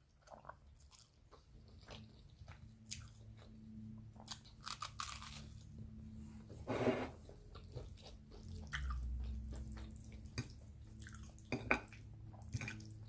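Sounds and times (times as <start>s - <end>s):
chewing spaghetti: 0.0s - 5.8s, 7.3s - 13.0s.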